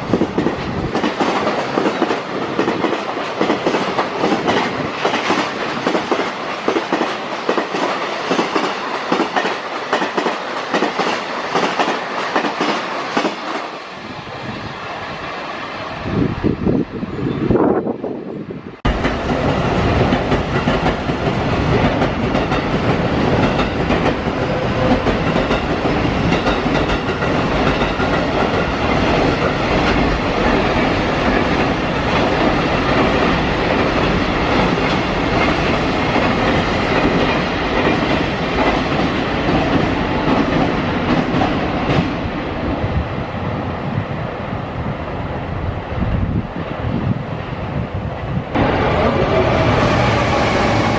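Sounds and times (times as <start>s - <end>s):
freight train passing: 0.0s - 50.9s.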